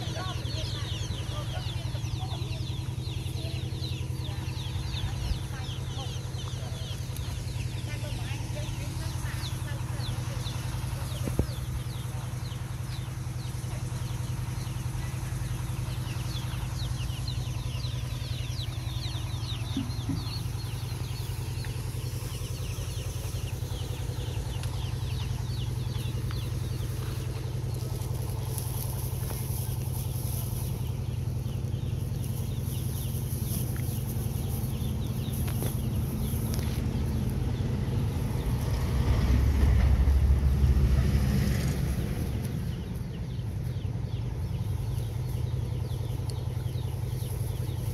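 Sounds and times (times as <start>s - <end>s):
engine humming: 0.0s - 47.9s.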